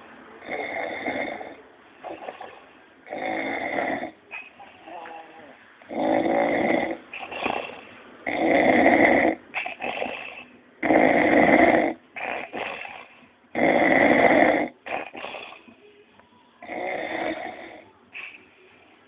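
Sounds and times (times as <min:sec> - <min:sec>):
faint breaths: 0:00.0 - 0:19.0
man snoring heavily: 0:00.4 - 0:15.6, 0:16.6 - 0:17.8.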